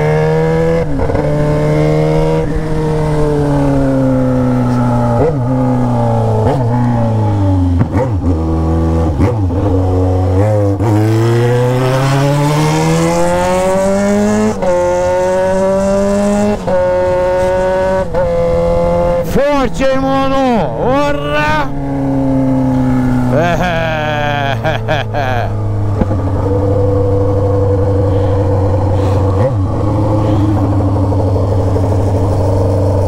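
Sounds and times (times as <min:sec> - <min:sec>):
motorcycle engine shifting gears: 0:00.0 - 0:19.4, 0:21.7 - 0:33.0.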